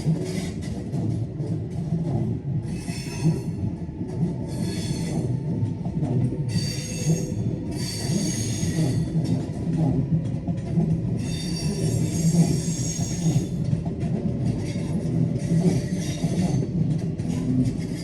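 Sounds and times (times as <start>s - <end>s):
train rumbling on tracks: 0.0s - 18.0s
train wheels squealing on rails: 0.0s - 18.0s.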